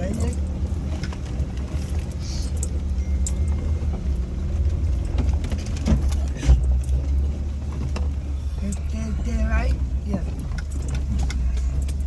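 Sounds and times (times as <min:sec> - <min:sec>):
off-road vehicle engine rumbling: 0:00.0 - 0:12.0
vehicle rattles and knocks: 0:00.0 - 0:12.0.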